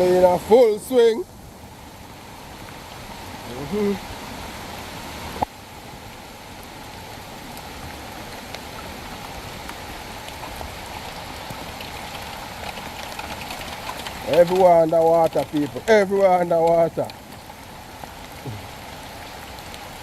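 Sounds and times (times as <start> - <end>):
heavy rain: 0.0 - 20.0
water rushing in gully: 0.0 - 20.0.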